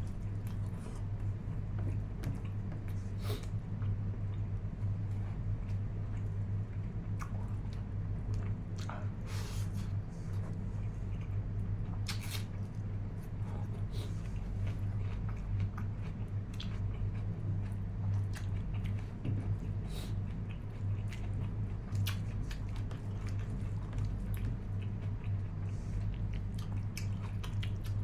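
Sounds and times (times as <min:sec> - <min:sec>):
low electrical hum: 0:00.0 - 0:28.0
person chewing meat: 0:00.0 - 0:28.0.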